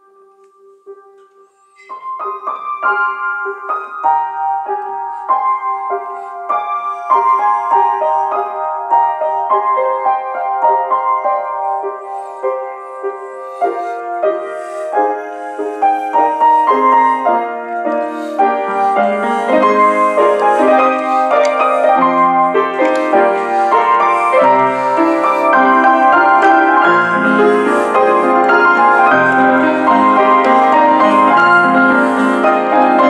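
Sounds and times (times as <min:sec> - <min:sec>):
solo piano chords: 0:00.0 - 0:33.0.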